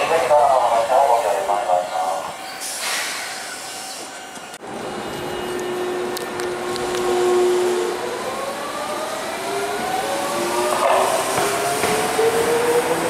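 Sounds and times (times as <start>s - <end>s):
tram motor hum and whine: 0.0s - 13.0s.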